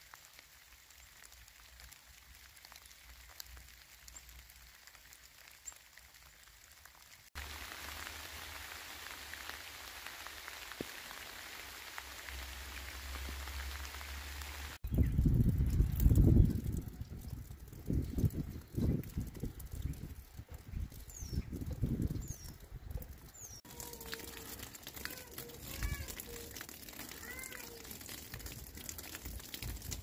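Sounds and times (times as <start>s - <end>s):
rain patter: 0.0s - 30.0s.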